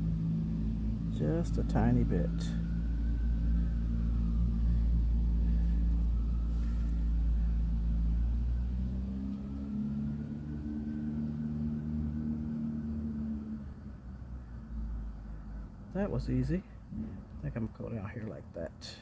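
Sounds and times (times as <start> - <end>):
low motor hum: 0.0 - 18.3.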